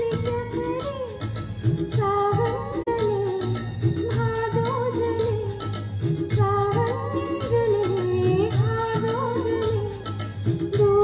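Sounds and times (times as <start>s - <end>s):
backing track with bass: 0.0s - 11.0s
woman singing into microphone: 0.0s - 11.0s.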